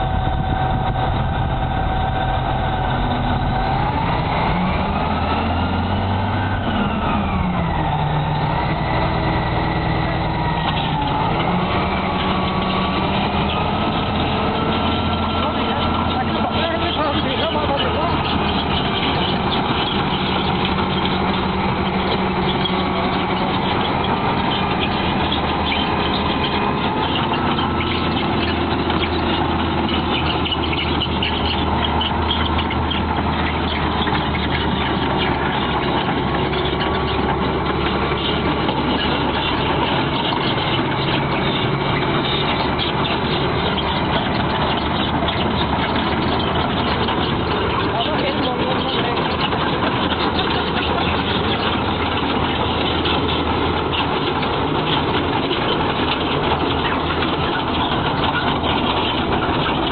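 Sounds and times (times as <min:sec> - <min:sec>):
heavy diesel engines idling: 0:00.0 - 0:59.9.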